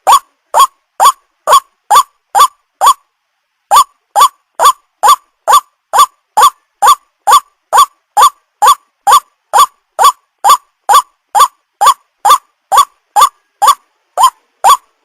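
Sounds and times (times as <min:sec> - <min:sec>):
waterhen calling: 0:00.0 - 0:03.0, 0:03.7 - 0:15.0.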